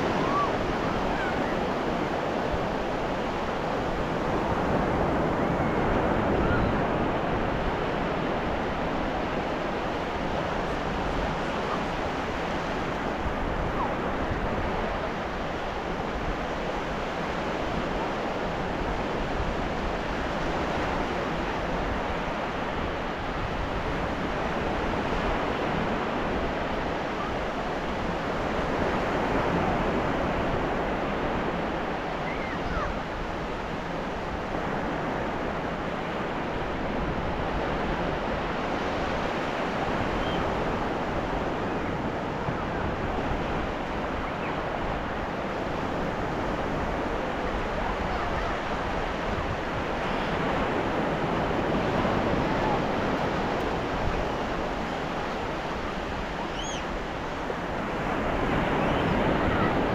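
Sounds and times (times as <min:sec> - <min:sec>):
ocean waves washing onto beach: 0:00.0 - 0:59.9.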